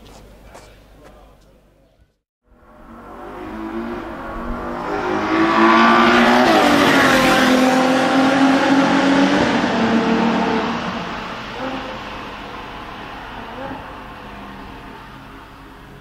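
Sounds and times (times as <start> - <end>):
sports car engine revving: 2.6 - 15.5.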